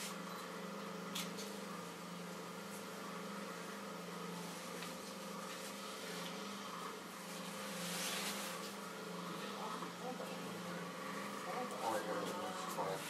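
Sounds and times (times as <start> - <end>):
low electric hum: 0.0 - 13.0.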